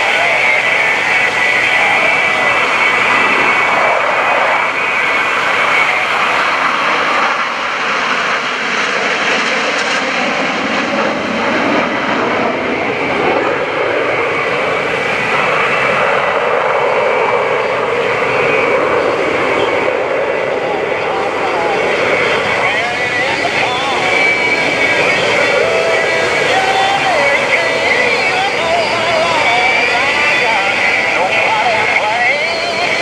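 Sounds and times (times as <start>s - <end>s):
jet engines rumbling overhead: 0.0s - 33.0s.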